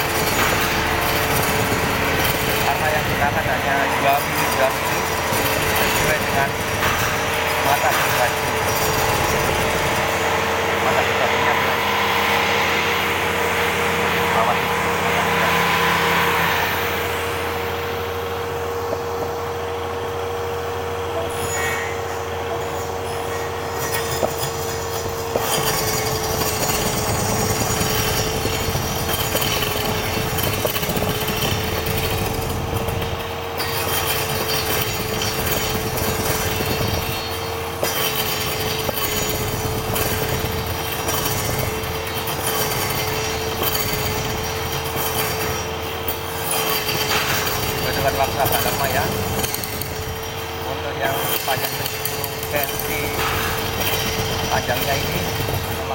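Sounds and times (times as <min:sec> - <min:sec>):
circular saw whining: 0:00.0 - 0:55.9
saw rasping through wood: 0:00.0 - 0:55.9.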